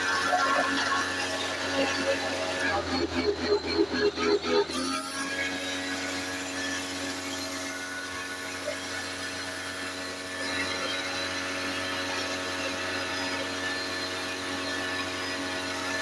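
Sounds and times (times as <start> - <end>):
pressure washer motor hum: 0.0 - 16.0.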